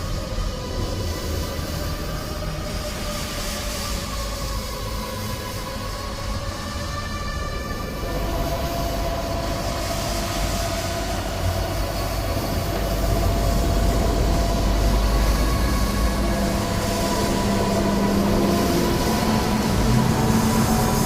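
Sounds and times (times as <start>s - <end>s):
deep rumbling drone: 0.0s - 21.0s.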